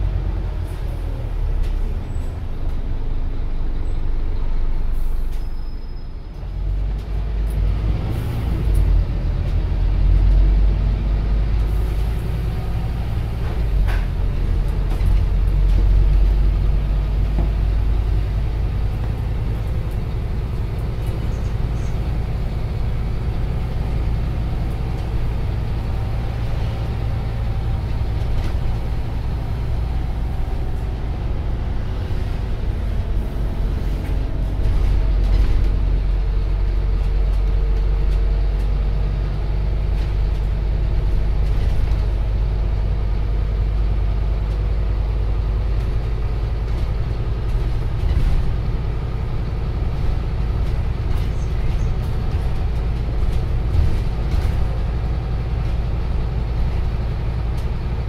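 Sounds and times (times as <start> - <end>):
bus diesel engine droning: 0.0 - 58.0
low road rumble: 0.0 - 58.0.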